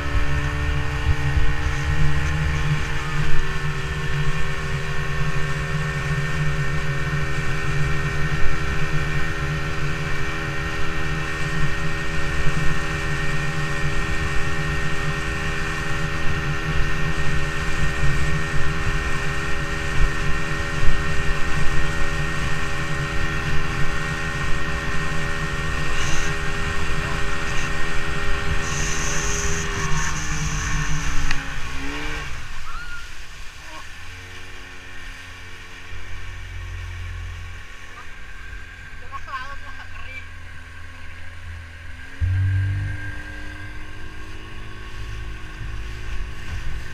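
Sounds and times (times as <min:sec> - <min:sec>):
motorboat engine: 0:00.0 - 0:46.9
water noise: 0:00.0 - 0:46.9
wind: 0:00.0 - 0:46.9.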